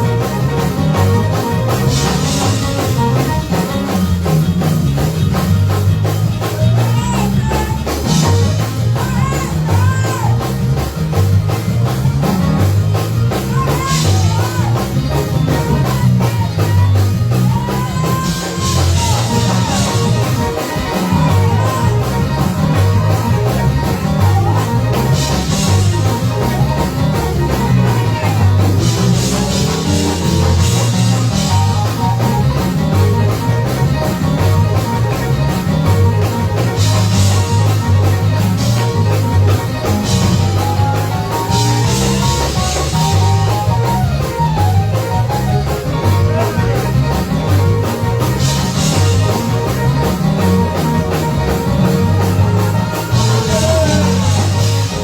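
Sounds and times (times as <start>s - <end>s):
gospel band playing: 0.0s - 55.0s.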